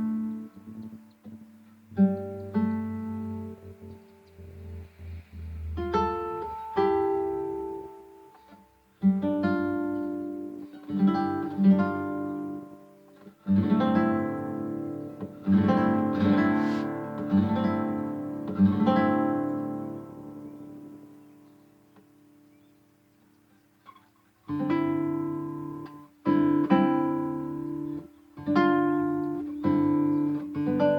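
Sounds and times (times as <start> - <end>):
acoustic guitar music: 0.0 - 30.9.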